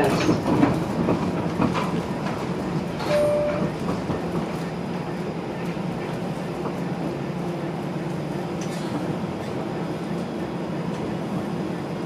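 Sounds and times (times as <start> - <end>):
streetcar cabin hum and rumble: 0.0 - 12.0.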